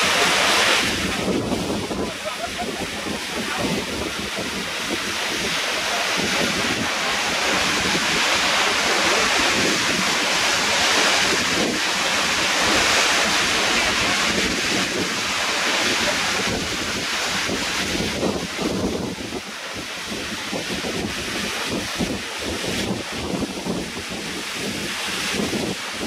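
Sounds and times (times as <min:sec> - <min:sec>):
waterfall rushing: 0:00.0 - 0:26.0
wind buffeting microphone: 0:00.0 - 0:26.0.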